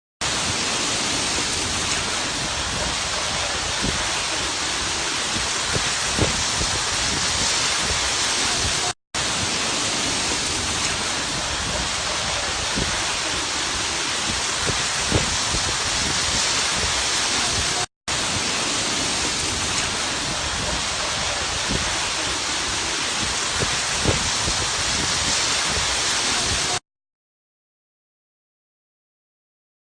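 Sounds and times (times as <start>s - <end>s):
storm wind and driving rain: 0.2s - 26.8s.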